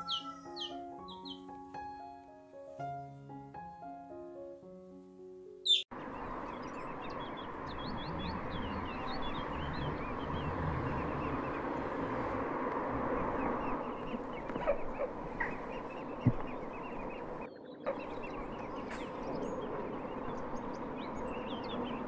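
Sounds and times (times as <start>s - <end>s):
small birds chirping: 0.0s - 1.7s, 5.6s - 22.0s.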